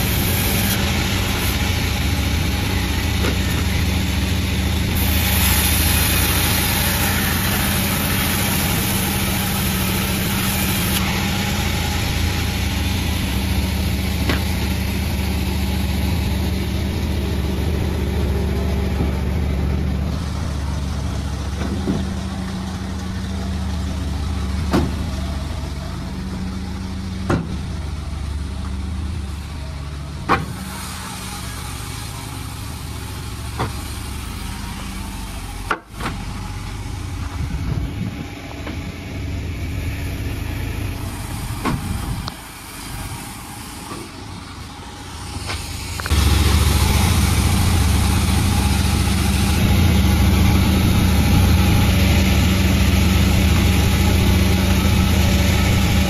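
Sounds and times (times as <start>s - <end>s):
sawmill machine engine running: 0.0s - 56.0s.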